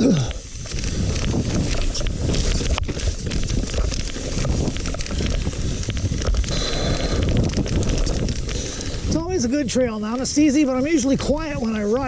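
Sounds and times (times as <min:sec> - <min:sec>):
bike tyres rumbling on dirt: 0:00.0 - 0:12.0
bike rattling over bumps: 0:00.2 - 0:12.0
wind buffeting microphone: 0:00.4 - 0:12.0.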